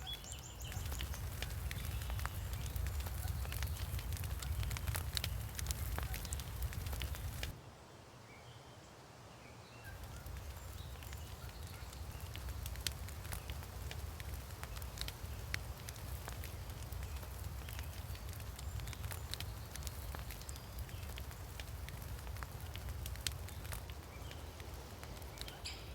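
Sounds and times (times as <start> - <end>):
wood fire crackling and popping: 0.0 - 7.6, 9.9 - 25.9.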